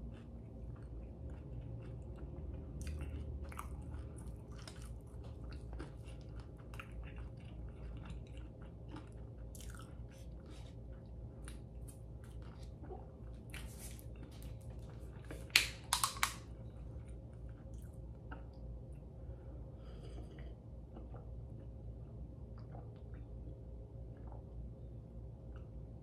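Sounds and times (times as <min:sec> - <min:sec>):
person chewing soft food: 0:00.0 - 0:26.0.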